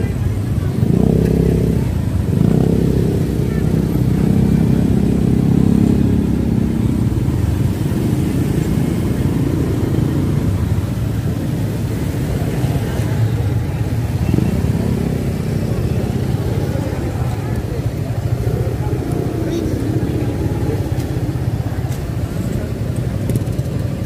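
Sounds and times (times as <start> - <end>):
motorcycle engine humming: 0.0 - 24.0
traffic of motorbikes and cars: 0.0 - 24.0.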